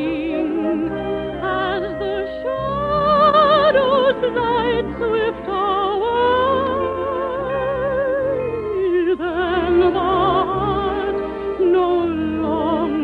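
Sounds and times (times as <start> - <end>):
operetta singing with vibrato: 0.0 - 13.0
orchestral accompaniment: 0.0 - 13.0.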